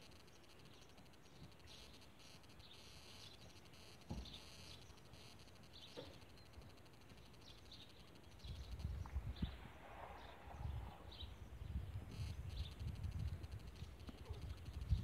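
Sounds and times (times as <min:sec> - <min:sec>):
high chirps of birds or insects: 0:00.0 - 0:15.0.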